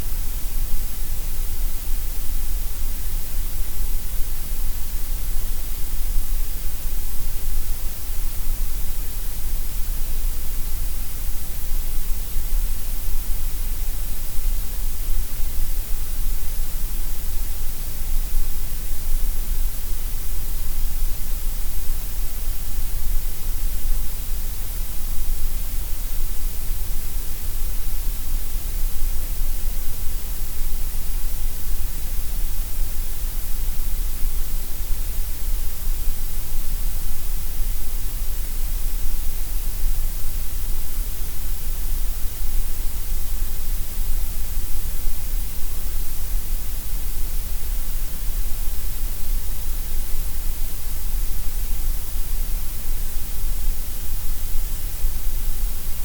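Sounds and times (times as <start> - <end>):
steady gray noise hiss: 0.0 - 56.0.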